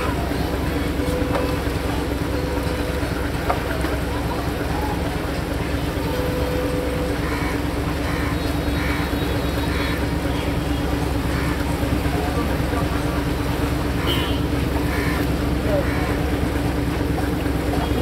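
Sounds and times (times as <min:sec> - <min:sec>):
busy outdoor noise: 0:00.0 - 0:18.0
engine drone: 0:00.0 - 0:18.0
faint voices: 0:00.0 - 0:18.0.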